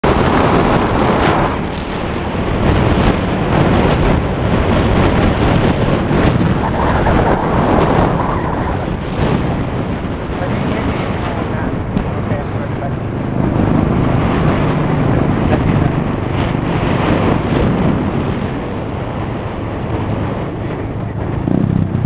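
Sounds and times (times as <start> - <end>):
motorcycle engine running: 0.0 - 22.0
road noise: 0.0 - 22.0
wind buffeting microphone: 0.0 - 22.0.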